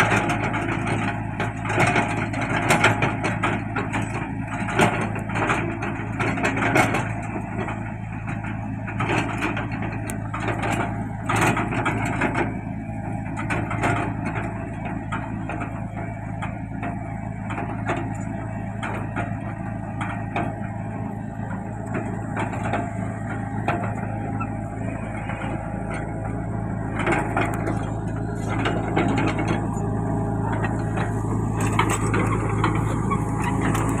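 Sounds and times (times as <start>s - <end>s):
metal clanks and rattles: 0.0s - 12.6s, 13.3s - 34.0s
diesel engine running: 0.0s - 34.0s.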